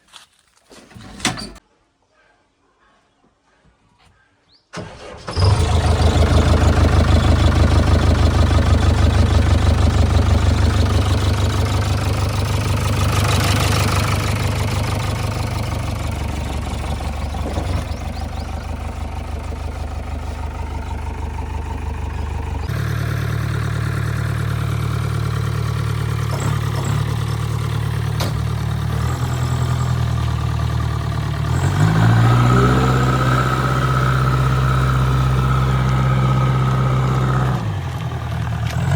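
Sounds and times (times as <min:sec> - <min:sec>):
diesel engine running: 0:04.8 - 0:38.9.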